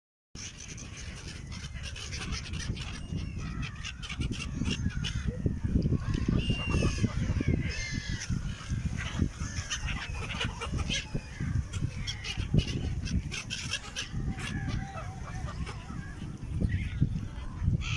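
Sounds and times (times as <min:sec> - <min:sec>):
gulls calling: 0:00.4 - 0:17.9.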